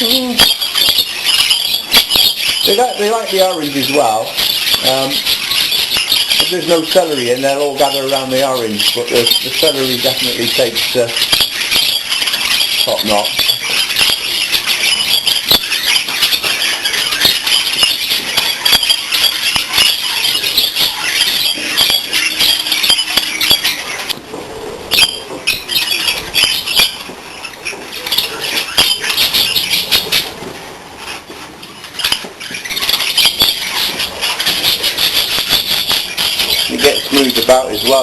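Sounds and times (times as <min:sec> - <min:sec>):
budgerigars chattering and chirping: 0:00.0 - 0:38.0.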